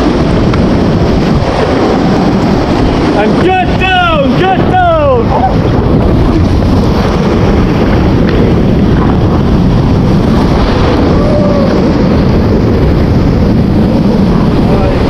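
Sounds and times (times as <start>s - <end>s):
whitewater rapid rushing: 0.0s - 15.0s.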